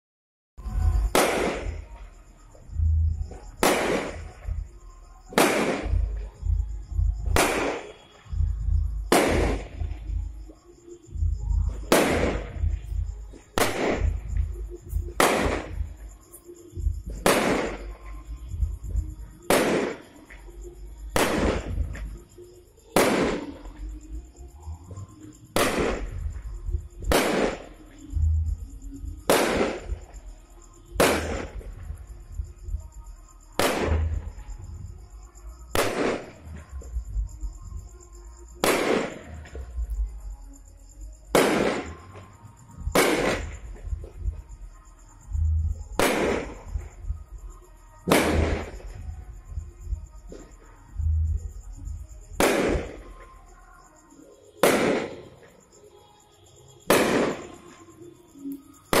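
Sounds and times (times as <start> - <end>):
fireworks bursting with sharp bangs: 0.6 - 40.2, 41.2 - 55.7, 56.8 - 58.0, 58.7 - 59.0.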